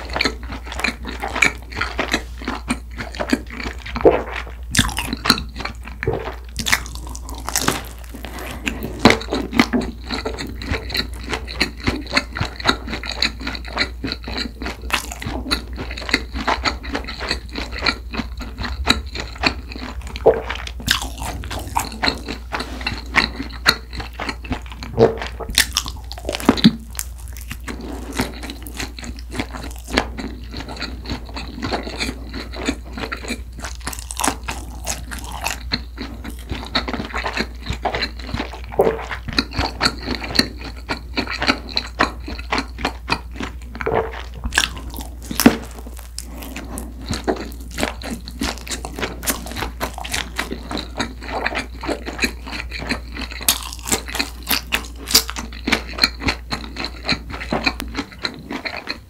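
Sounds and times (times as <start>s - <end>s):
chewing with wet mouth clicks: 0.0s - 59.0s.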